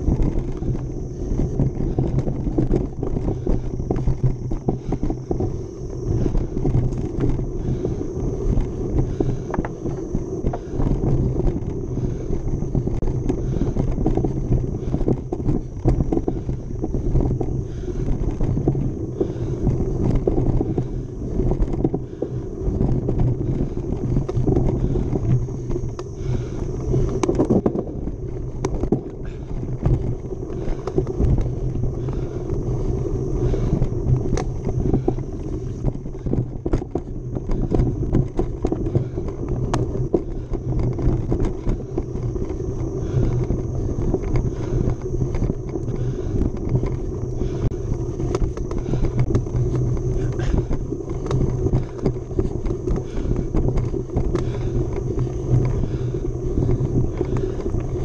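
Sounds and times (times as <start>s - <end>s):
bike clicking and rattling: 0.0s - 58.0s
bike tyres rumbling on dirt: 0.0s - 58.0s.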